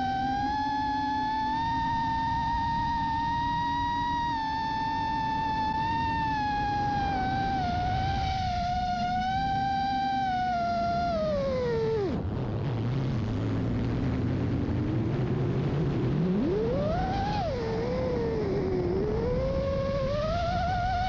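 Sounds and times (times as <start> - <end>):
quadcopter motors whining: 0.0 - 12.2, 16.2 - 21.0.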